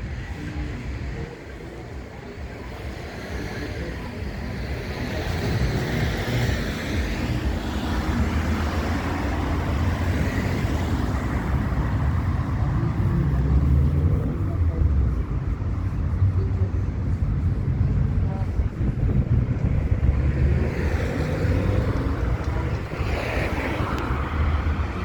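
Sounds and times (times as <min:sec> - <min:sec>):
cars passing: 0:00.0 - 0:25.0
vehicle approaching: 0:02.8 - 0:25.0.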